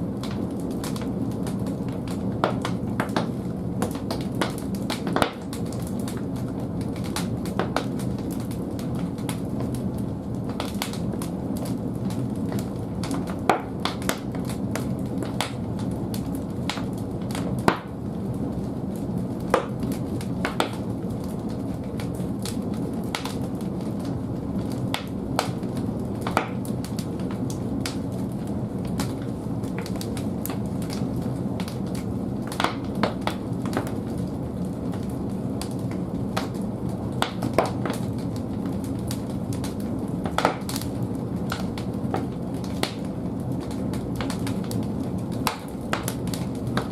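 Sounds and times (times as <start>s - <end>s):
fire crackling and popping: 0.0s - 46.9s
logs burning with low rumble: 0.0s - 46.9s.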